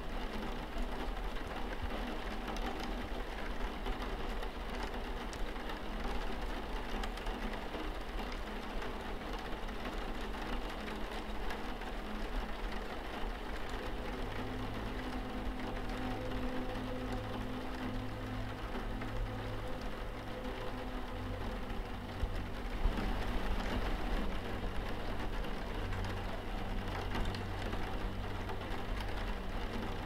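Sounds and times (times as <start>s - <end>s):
low held musical tones: 0.0s - 30.0s
rain pattering on a window: 0.0s - 30.0s.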